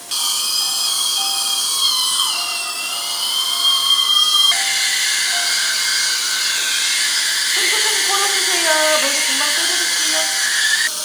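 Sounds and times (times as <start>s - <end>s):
dental drill whining: 0.0s - 11.0s.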